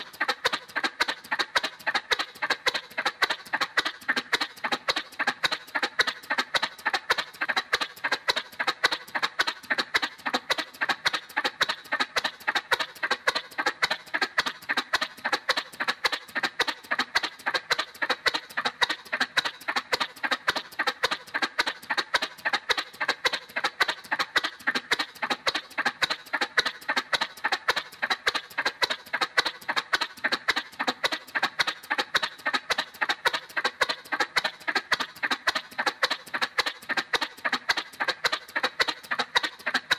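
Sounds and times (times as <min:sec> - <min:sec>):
cartoon motorcycle putt-putt: 0:00.0 - 0:39.9.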